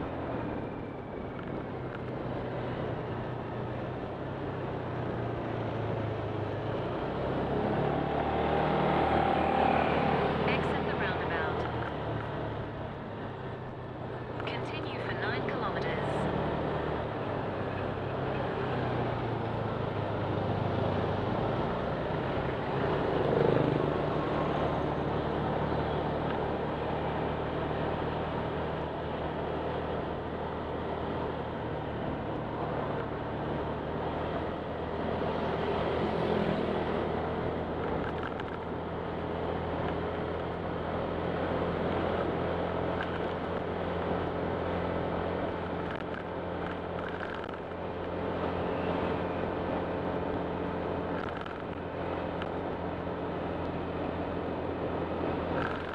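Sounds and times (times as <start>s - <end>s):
road and wind noise: 0.0s - 55.9s.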